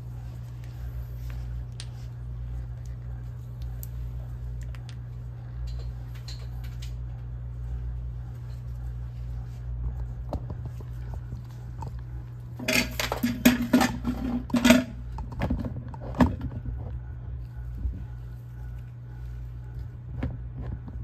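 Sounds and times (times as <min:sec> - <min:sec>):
low electrical hum: 0:00.0 - 0:21.0
clattering and rustling handling: 0:00.2 - 0:21.0.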